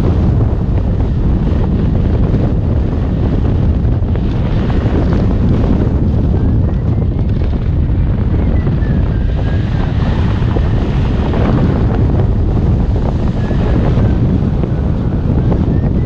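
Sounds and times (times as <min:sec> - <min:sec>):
loud wind rushing over microphone: 0:00.0 - 0:16.0.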